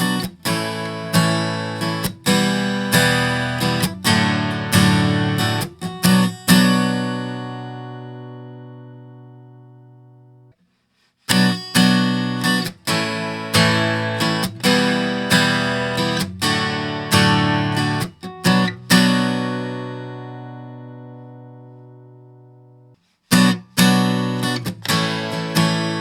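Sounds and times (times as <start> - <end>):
acoustic guitar strumming chords: 0.0 - 10.5, 11.3 - 26.0.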